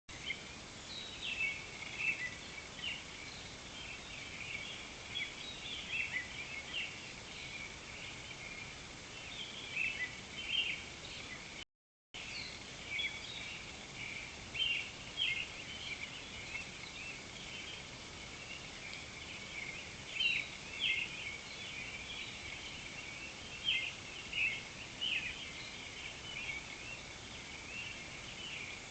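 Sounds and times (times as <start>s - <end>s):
birds chirping: 0.1s - 11.6s, 12.2s - 28.9s
high-pitched background hiss: 0.1s - 11.6s, 12.2s - 28.9s.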